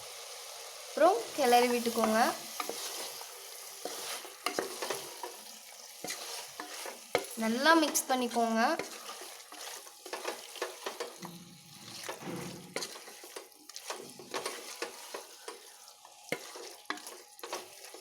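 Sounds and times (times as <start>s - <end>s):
frying sizzle: 0.0s - 18.0s.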